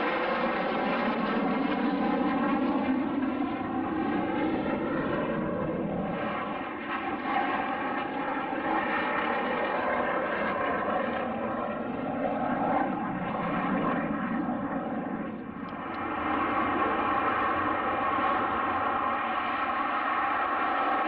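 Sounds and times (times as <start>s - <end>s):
aircraft engine drone: 0.0s - 21.0s.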